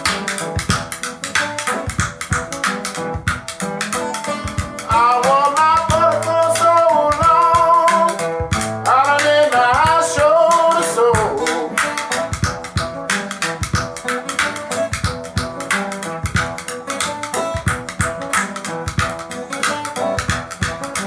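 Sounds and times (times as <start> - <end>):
steady drum beat: 0.0 - 3.7, 4.4 - 14.1, 14.8 - 21.0
plucked guitar: 0.0 - 21.0.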